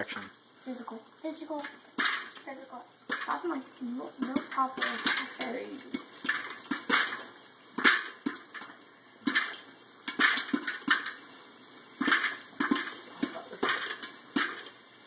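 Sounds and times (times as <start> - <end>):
popcorn popping: 0.7 - 15.0.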